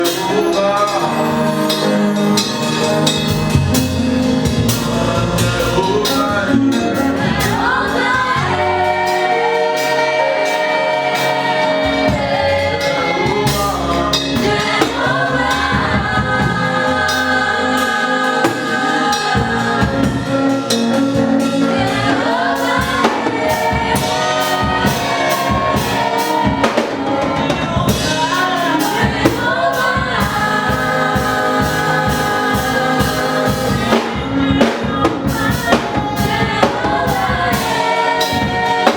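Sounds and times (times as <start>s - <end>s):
choir singing: 0.0s - 38.9s
drum kit and band: 0.0s - 38.9s.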